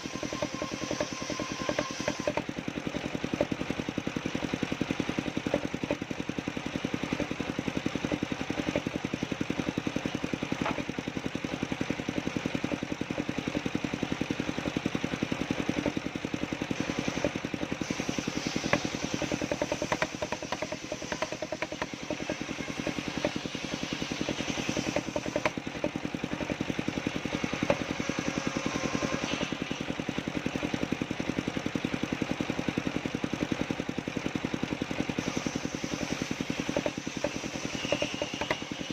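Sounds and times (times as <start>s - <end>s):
mechanical clatter and knocks: 0.0s - 38.9s
sawmill engine running: 0.0s - 38.9s.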